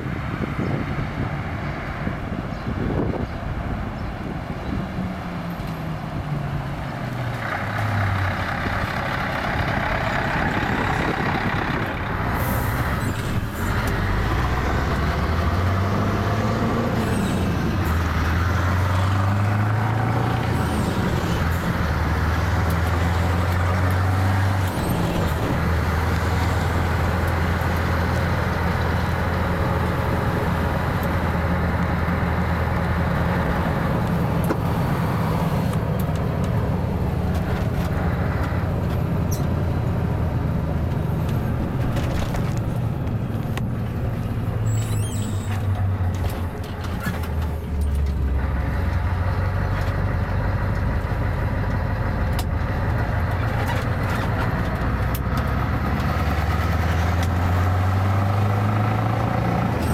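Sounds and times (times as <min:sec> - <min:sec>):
diesel truck engine pulling: 0:00.0 - 0:59.9.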